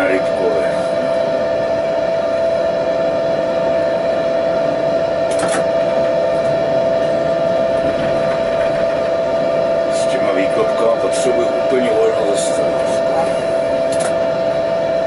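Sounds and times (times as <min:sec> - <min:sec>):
tram motor whine: 0:00.0 - 0:15.0
wheels rumbling on rails: 0:00.0 - 0:15.0.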